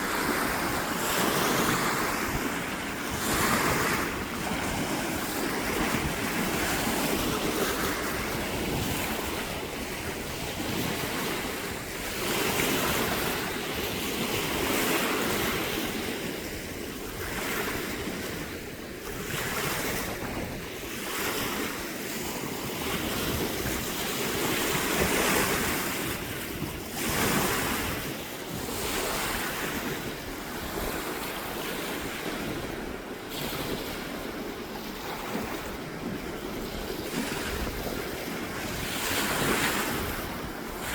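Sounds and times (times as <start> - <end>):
sea waves washing in: 0.0 - 40.9
wind buffeting microphone: 0.0 - 40.9.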